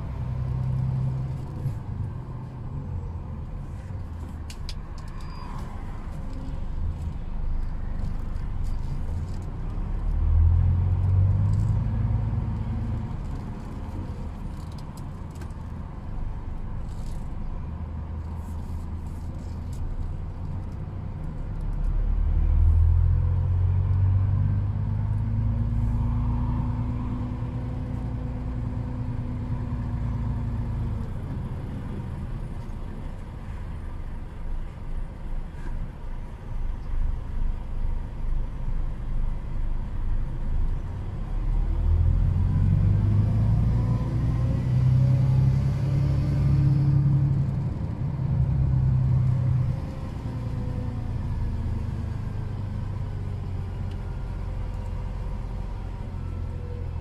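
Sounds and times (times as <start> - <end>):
truck diesel engine accelerating: 0.0 - 4.5, 5.9 - 18.4, 19.0 - 57.0.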